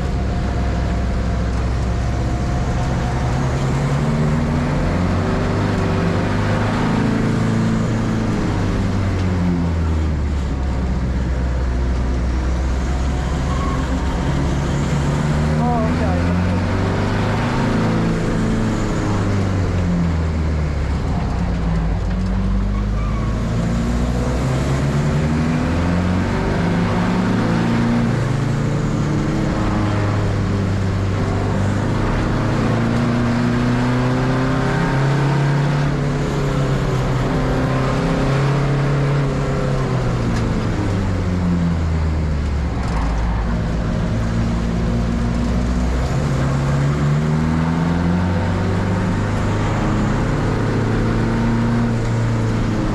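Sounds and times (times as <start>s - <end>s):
race car engine accelerating: 0.0s - 52.9s.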